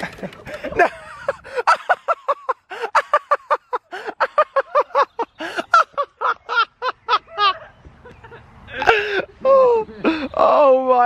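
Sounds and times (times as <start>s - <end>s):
man laughing: 0.0s - 10.8s.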